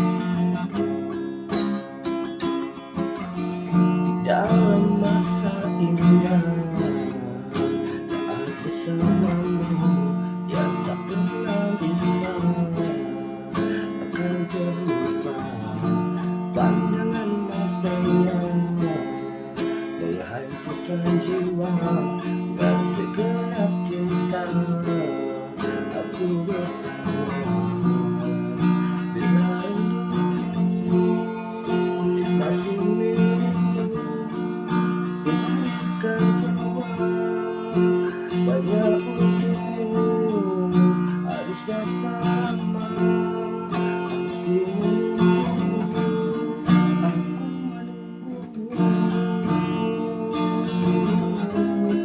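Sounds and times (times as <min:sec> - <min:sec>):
acoustic guitar music: 0:00.0 - 0:52.0.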